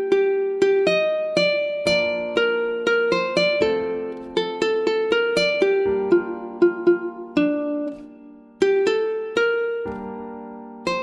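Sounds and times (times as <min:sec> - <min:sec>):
ukulele plucked notes: 0:00.0 - 0:11.0.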